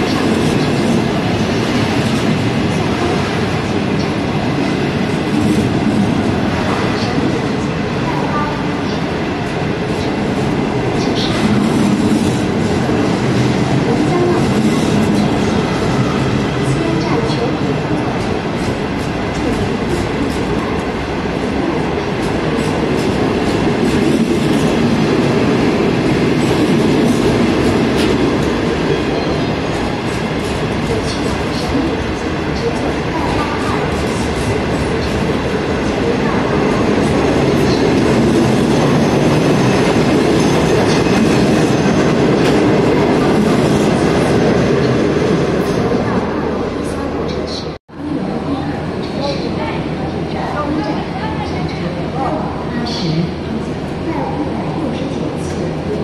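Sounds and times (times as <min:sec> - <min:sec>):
train wheels on rail: 0:00.0 - 0:47.8.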